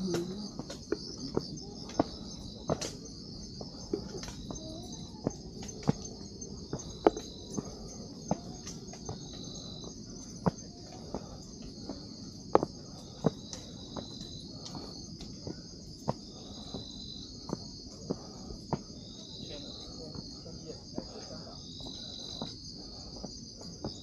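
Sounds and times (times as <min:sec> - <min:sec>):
crickets and night insects chirping: 0:00.0 - 0:24.0.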